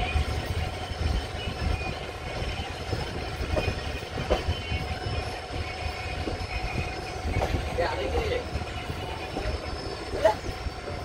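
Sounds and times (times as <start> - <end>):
train coach rumbling on track: 0.0 - 11.0.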